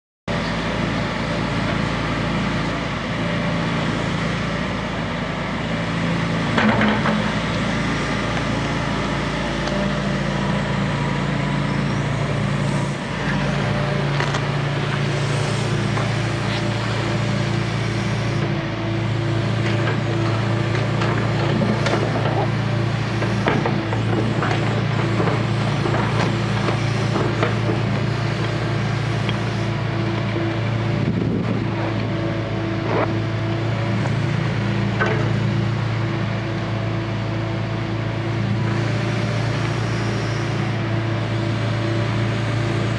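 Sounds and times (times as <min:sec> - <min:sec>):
excavator diesel engine running: 0:00.3 - 0:42.9.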